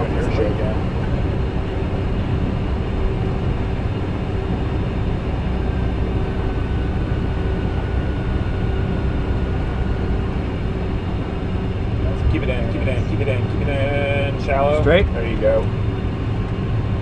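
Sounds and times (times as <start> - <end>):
jet engines rumbling and hissing: 0.0 - 17.0.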